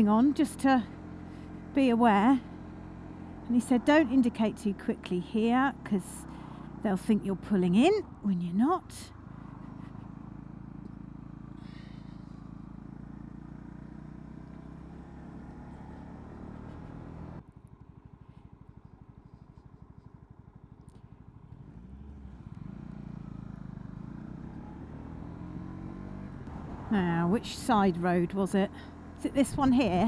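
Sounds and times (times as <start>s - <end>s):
motorcycle engine running and idling: 0.0s - 30.0s.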